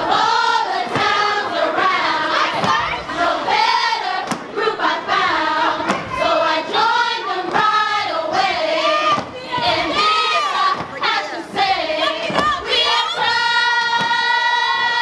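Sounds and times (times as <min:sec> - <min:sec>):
women chanting together: 0:00.0 - 0:15.0.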